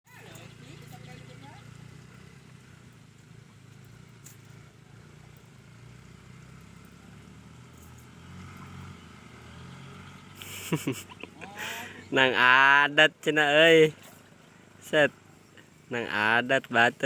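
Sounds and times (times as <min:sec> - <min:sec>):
low engine hum: 0:00.1 - 0:17.0.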